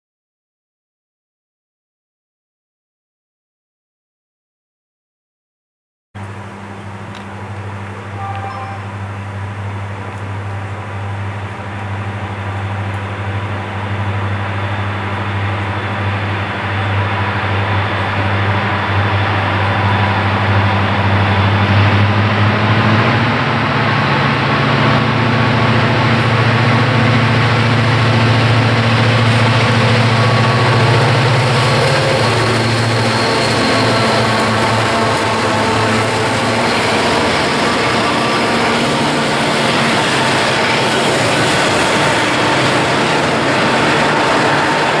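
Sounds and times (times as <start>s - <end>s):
diesel locomotive engines droning: 6.2s - 45.0s
freight cars rolling by: 6.2s - 45.0s.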